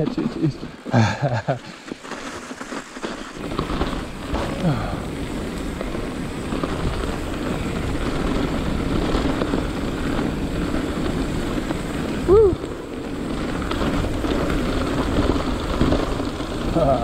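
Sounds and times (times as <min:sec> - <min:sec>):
tyre rumble: 0:00.0 - 0:17.0
wind on microphone: 0:03.3 - 0:17.0.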